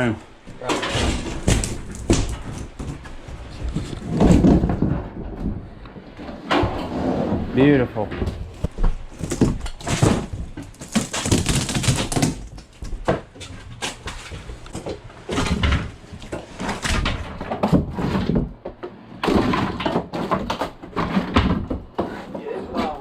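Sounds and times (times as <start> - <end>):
boards being pried and broken: 0.6 - 5.6, 8.2 - 23.0.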